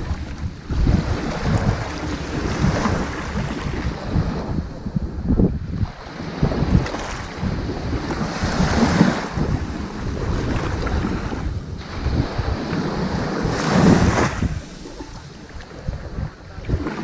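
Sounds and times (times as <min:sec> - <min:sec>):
ocean waves washing on beach: 0:00.0 - 0:17.0.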